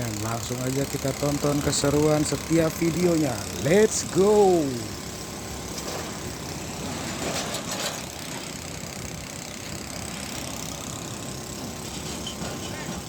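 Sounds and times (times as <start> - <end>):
diesel truck engine running: 0.0 - 13.0
road traffic rumble: 0.0 - 13.0.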